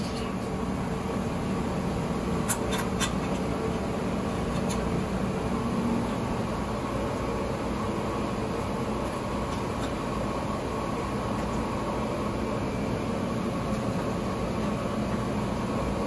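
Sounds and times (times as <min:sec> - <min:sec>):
laundry machinery hum: 0:00.0 - 0:16.0.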